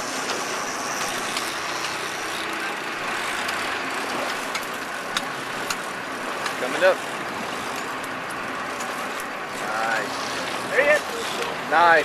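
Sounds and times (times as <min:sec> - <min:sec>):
boat engine running: 0:00.0 - 0:12.0
wind and water noise: 0:00.0 - 0:12.0.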